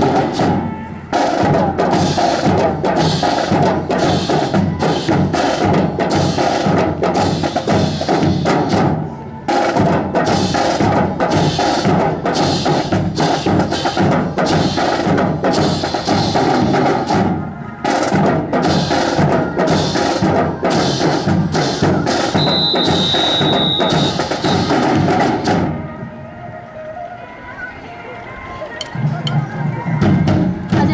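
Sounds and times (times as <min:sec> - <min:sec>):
busy drum beat: 0:00.0 - 0:25.8, 0:28.8 - 0:30.9
marching band music: 0:00.0 - 0:30.9.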